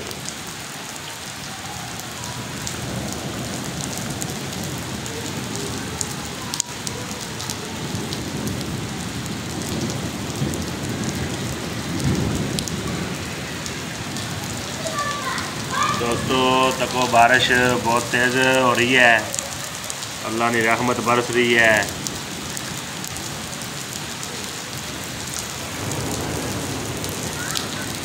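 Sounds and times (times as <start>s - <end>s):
heavy rain splashing into water: 0.0s - 28.0s.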